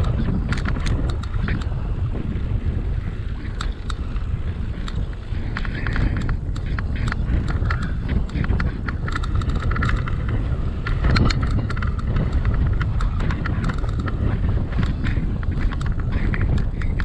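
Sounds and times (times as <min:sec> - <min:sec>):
clicks and rattles: 0:00.0 - 0:01.7, 0:04.8 - 0:17.0
wind rushing over microphone: 0:00.0 - 0:17.0.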